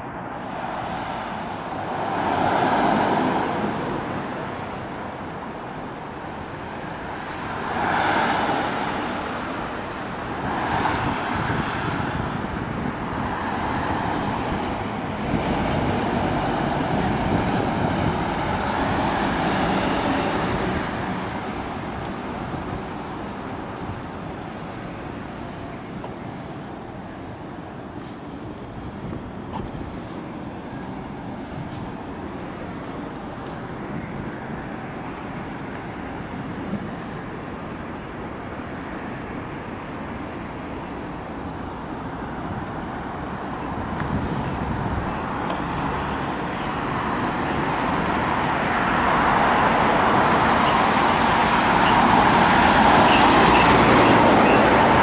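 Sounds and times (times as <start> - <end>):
road traffic noise: 0.0 - 55.0
vehicle approaching: 0.0 - 55.0.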